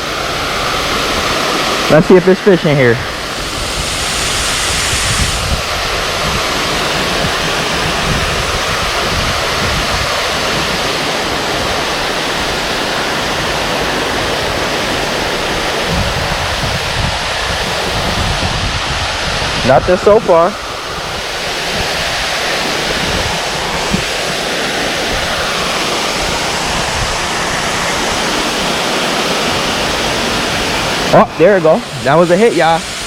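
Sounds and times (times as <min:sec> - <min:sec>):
small waterfall rushing: 0:00.0 - 0:33.0.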